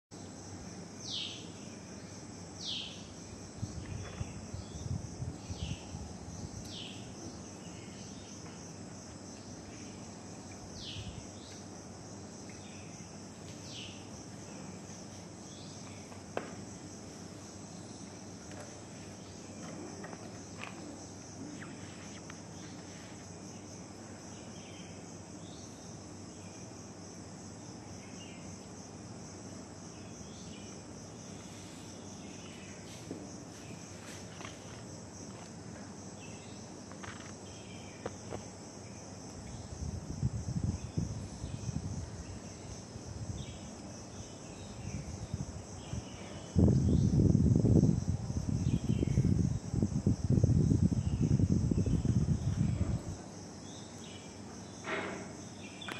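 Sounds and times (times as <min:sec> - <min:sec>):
insects chirring: 0:00.1 - 0:55.9.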